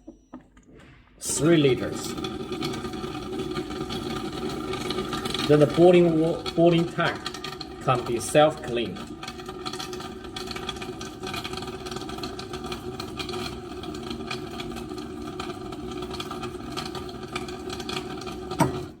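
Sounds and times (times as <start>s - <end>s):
boiling water tap crackling: 0.6s - 19.0s.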